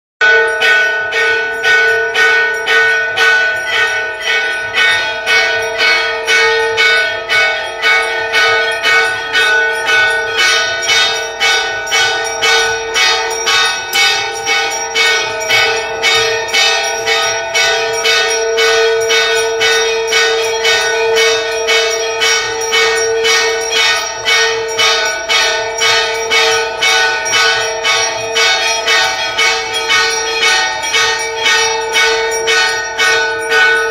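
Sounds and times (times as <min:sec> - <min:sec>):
temple bell ringing rapidly: 0:00.2 - 0:33.9.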